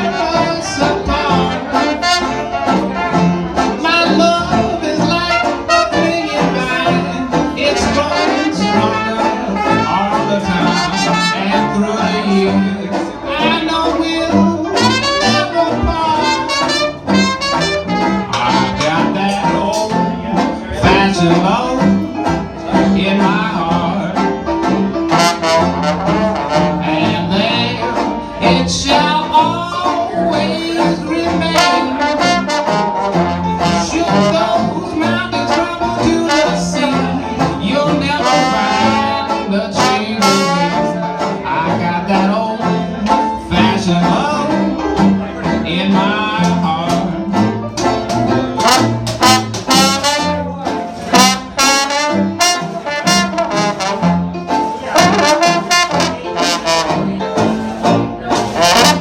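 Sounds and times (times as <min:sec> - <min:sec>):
jazz band playing: 0:00.0 - 0:59.0
trombone lead: 0:00.0 - 0:59.0.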